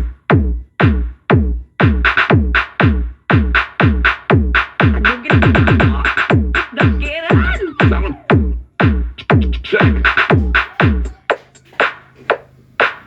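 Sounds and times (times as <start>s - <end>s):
electronic dance music: 1.8s - 13.0s.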